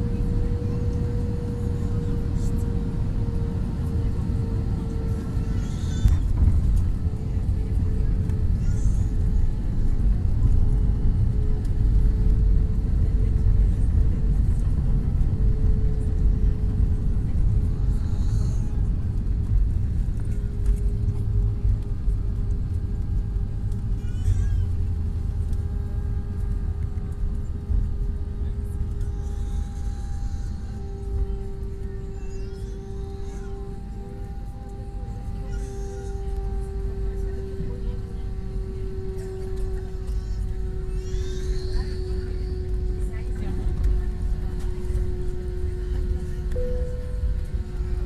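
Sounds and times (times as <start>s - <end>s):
aircraft cabin rumble: 0.0s - 48.0s.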